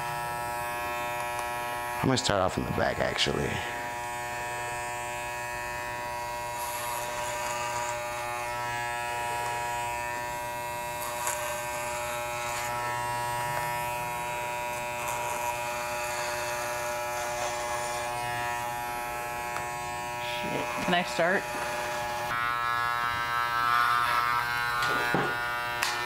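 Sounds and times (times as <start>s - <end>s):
electric hair clippers buzzing: 0.0s - 26.0s
clipper blades rasping through hair: 0.1s - 2.0s, 3.7s - 26.0s.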